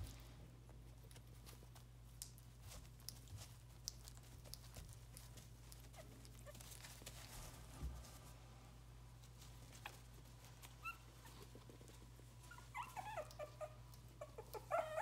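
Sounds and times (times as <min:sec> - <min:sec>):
low room hum: 0:00.0 - 0:15.0
puppy paws pattering on pad: 0:00.0 - 0:15.0.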